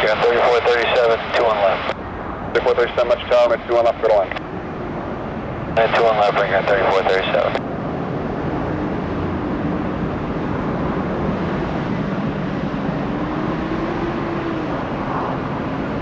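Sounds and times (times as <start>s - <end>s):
jet airliner engine rumble: 0.0s - 16.0s.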